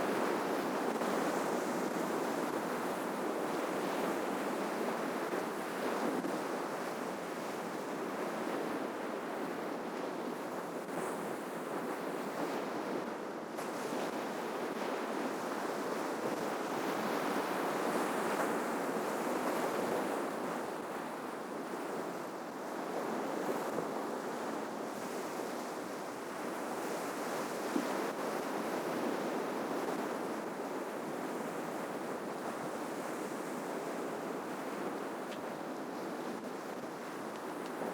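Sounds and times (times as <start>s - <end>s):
waves breaking on shore: 0.0s - 37.9s
wind: 0.0s - 37.9s.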